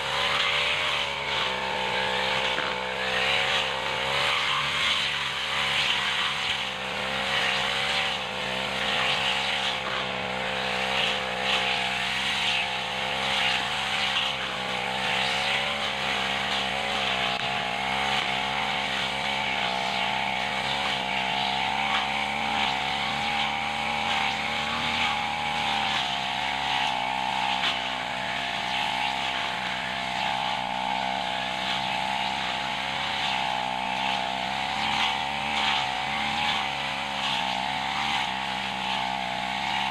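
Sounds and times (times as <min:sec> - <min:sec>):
brush cutter engine running: 0:00.0 - 0:39.9
cutting head mowing weeds: 0:00.0 - 0:39.9.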